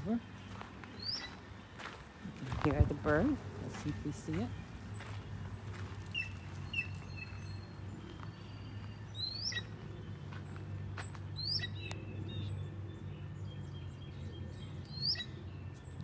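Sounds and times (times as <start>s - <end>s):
wild birds calling: 0.0s - 16.0s.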